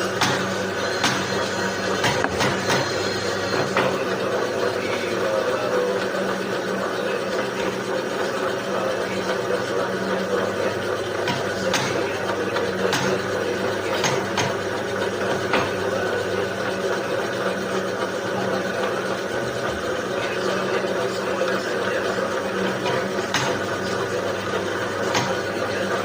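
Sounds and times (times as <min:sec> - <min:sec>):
boring machine humming: 0:00.0 - 0:26.0.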